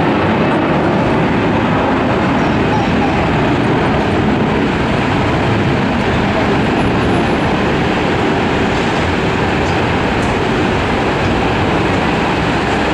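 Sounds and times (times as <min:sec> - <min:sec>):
jet engines roaring: 0:00.0 - 0:12.9.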